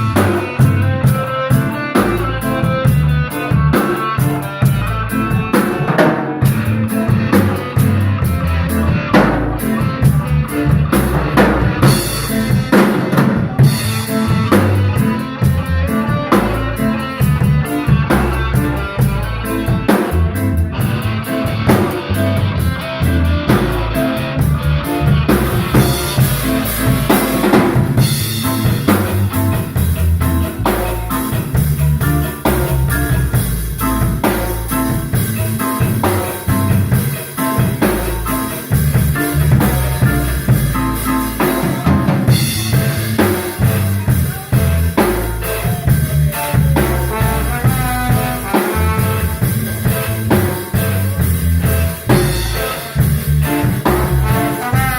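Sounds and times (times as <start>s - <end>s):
bass drum beat: 0.0s - 54.9s
bass notes: 0.0s - 54.9s
live instrumental band: 0.0s - 54.9s.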